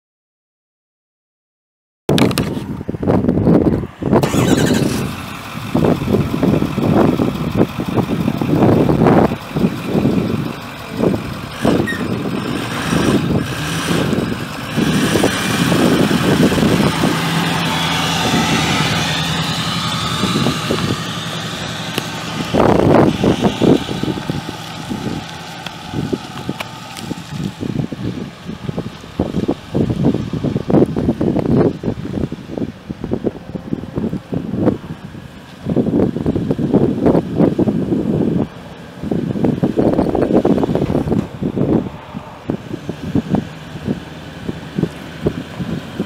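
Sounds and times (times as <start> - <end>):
diesel engine running: 2.3 - 46.0.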